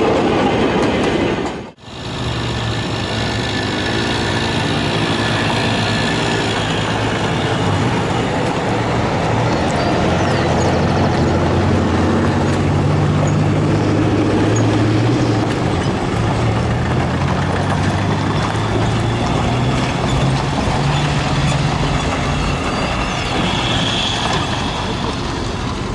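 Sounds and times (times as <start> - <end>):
diesel locomotive engine running: 0.0 - 25.9
train wheels rumbling on rails: 0.0 - 25.9.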